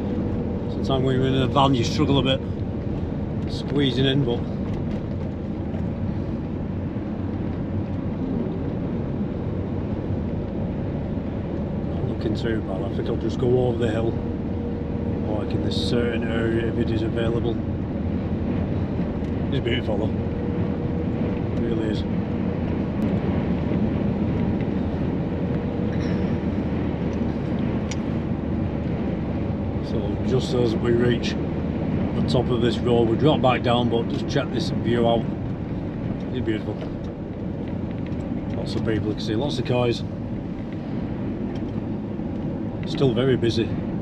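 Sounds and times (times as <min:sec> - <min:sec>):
campervan engine and road noise: 0:00.0 - 0:44.0.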